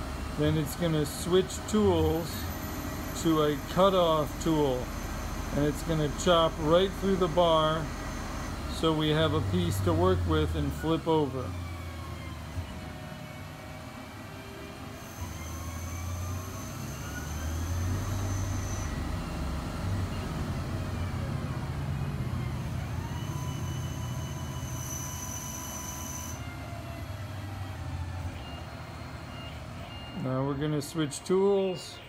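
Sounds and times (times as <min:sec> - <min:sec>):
lathe cutting metal: 0:00.0 - 0:29.8
whining tones gliding in pitch: 0:00.0 - 0:32.0.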